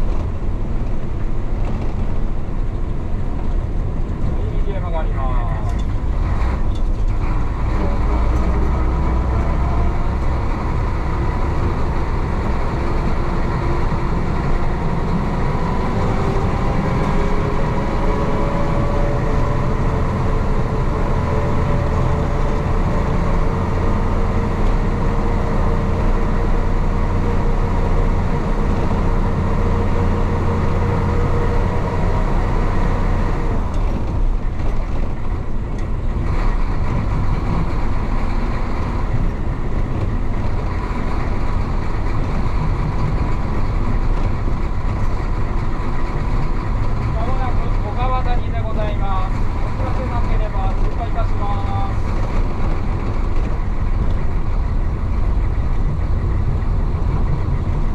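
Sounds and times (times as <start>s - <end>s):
bus diesel engine under load: 0.0s - 57.9s.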